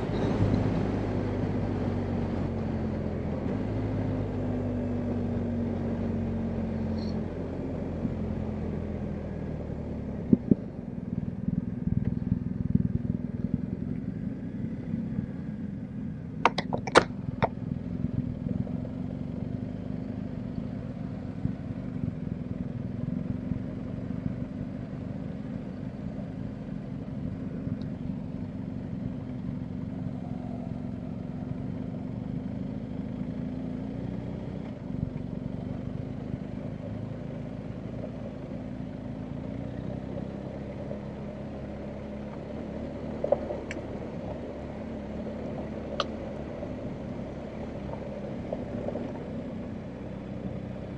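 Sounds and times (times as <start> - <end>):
motorcycle engine running: 4.1 - 50.9.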